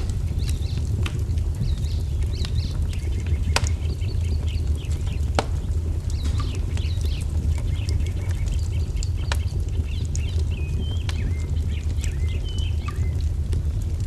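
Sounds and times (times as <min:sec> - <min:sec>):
small birds chirping: 0:00.0 - 0:14.0
wood fire crackling: 0:00.0 - 0:14.0.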